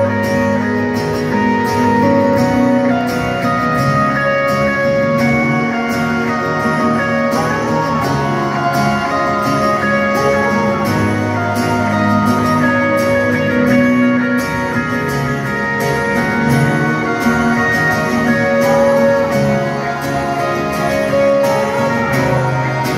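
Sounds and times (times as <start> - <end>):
electric guitar: 0.0 - 22.9
rock band playing live: 0.0 - 22.9.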